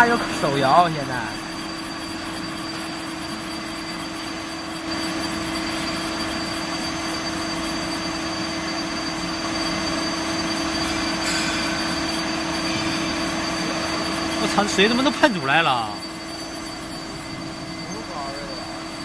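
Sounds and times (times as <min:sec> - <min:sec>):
drilling machine humming and whining: 0:00.0 - 0:19.0.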